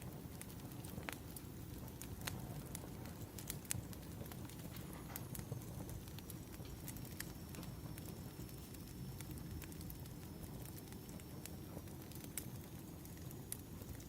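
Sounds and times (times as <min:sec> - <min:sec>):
firewood crackling and popping: 0:00.0 - 0:14.0
low rush of fire: 0:00.0 - 0:14.0.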